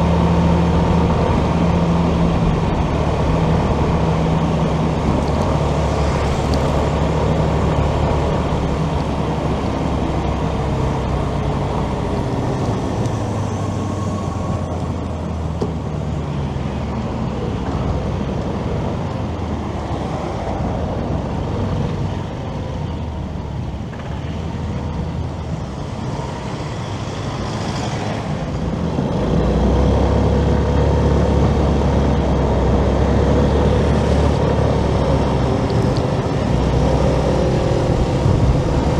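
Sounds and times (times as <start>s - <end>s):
road traffic: 0.0s - 38.9s
wind rumble on microphone: 0.0s - 38.9s.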